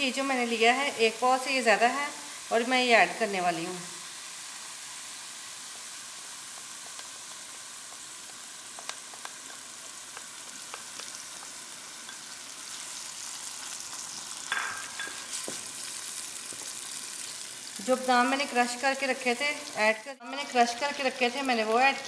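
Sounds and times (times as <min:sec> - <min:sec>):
ghee sizzling in a pan: 0:00.0 - 0:22.0.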